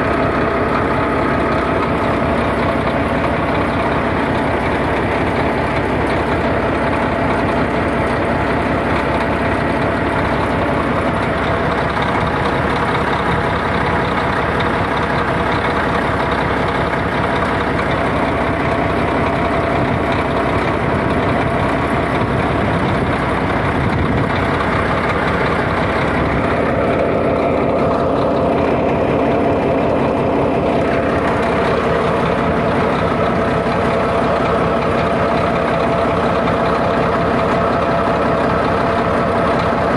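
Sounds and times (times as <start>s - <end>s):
bulldozer diesel engine chugging: 0.0s - 39.9s.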